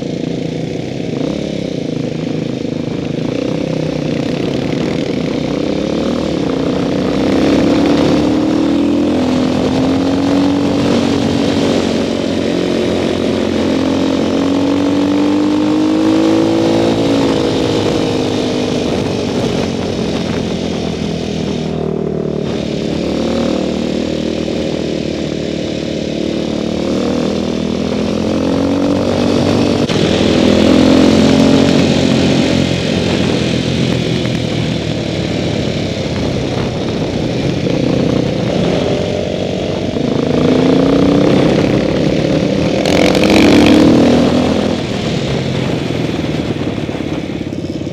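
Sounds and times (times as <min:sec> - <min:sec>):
motorcycle engine revving: 0:00.0 - 0:47.9
wind and road noise: 0:00.0 - 0:47.9.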